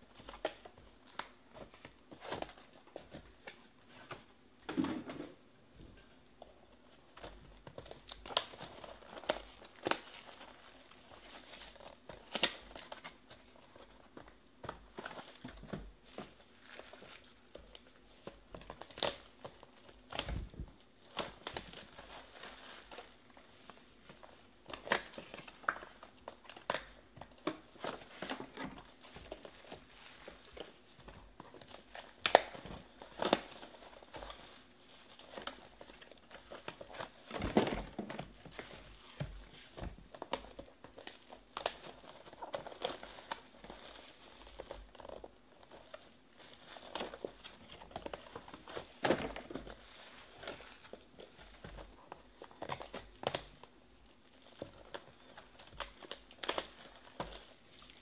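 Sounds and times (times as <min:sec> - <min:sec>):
plastic wrap crinkling and tearing: 0:07.2 - 0:58.0.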